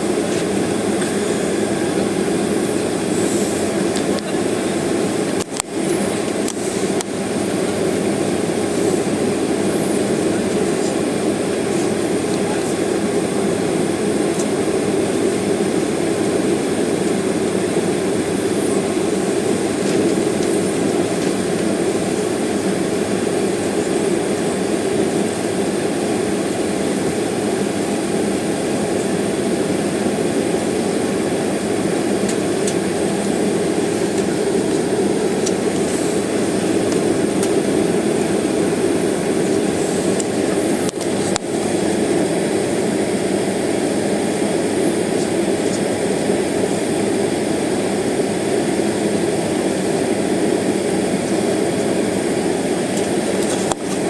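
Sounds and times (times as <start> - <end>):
cabin ventilation rush: 0.0 - 54.0
jet engines idling: 0.0 - 54.0.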